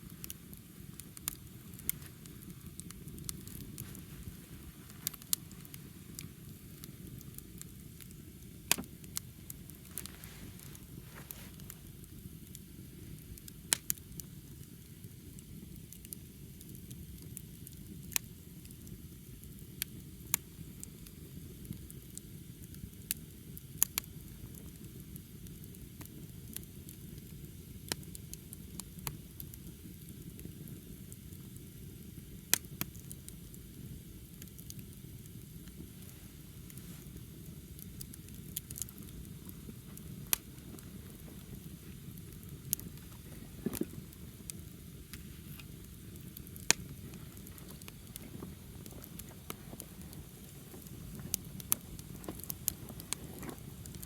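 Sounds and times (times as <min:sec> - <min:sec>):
wood fire rumbling: 0:00.0 - 0:54.0
burning wood popping and cracking: 0:00.1 - 0:54.0.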